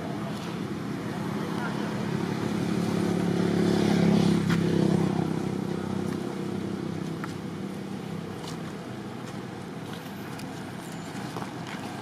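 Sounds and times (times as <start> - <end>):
passing vehicle engine drone: 0.0 - 12.0.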